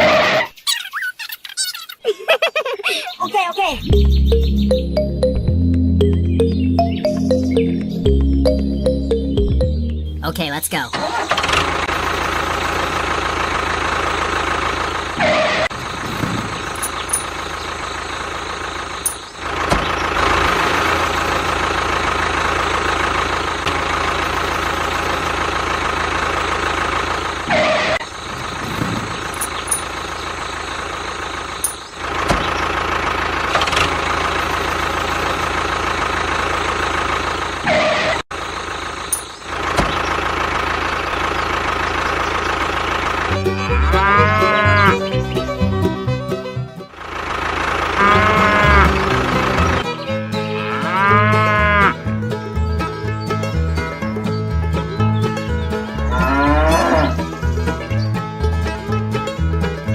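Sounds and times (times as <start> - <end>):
engine running: 3.6 - 59.9.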